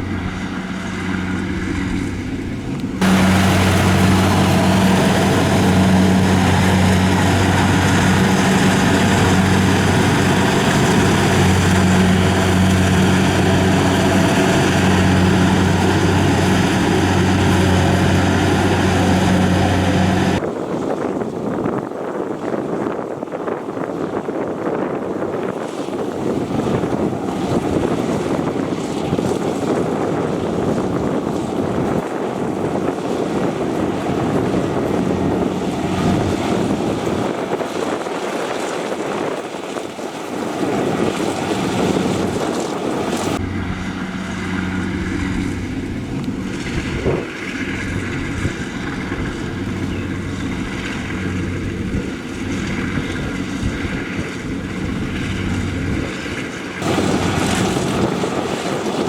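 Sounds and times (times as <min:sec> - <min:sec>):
combine harvester running: 0:00.0 - 0:20.4, 0:26.0 - 0:59.0
wind buffeting microphone: 0:00.0 - 0:59.0.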